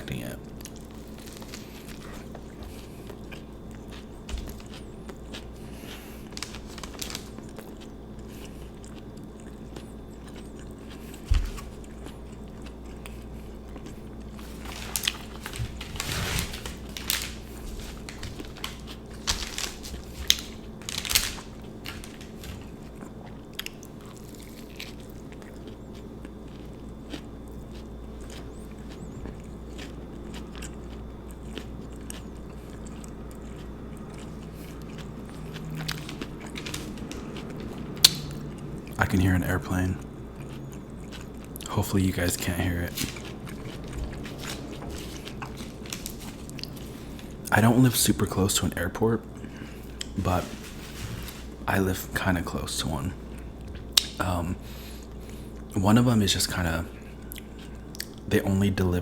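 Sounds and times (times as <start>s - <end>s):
steady low hum: 0.0s - 59.0s
crunchy bites: 0.1s - 47.9s
chewing sandwich: 0.4s - 47.9s, 56.9s - 58.3s.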